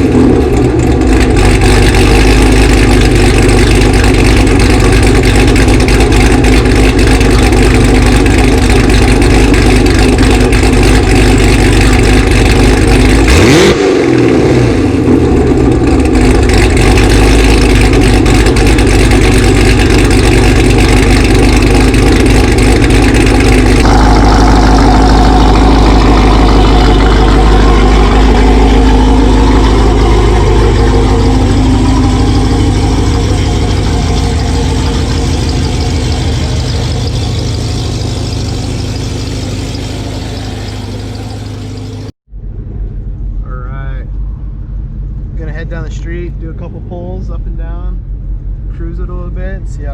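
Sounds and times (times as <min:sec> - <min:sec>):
loud car engine revving: 0:00.0 - 0:43.3.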